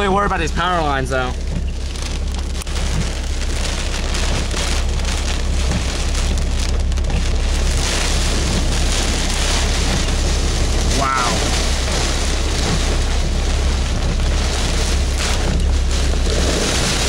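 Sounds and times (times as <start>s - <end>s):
heavy rain pelting car: 0.0s - 17.0s
low rumble of storm wind: 0.0s - 17.0s.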